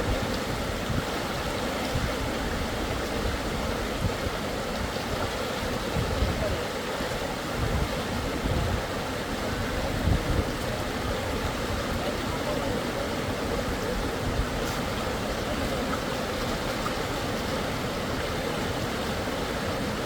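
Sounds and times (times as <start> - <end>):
river water over rapids: 0.0 - 20.0.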